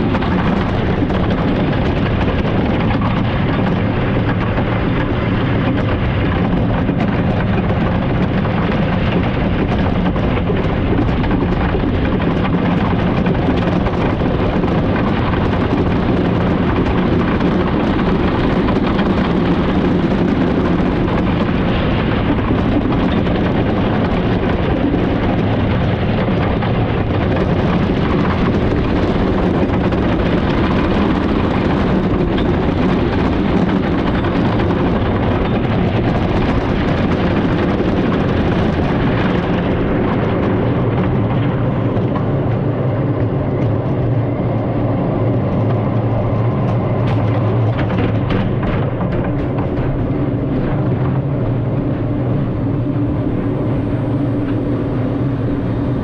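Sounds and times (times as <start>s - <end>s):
wooden roller coaster rumbling: 0.0s - 56.0s.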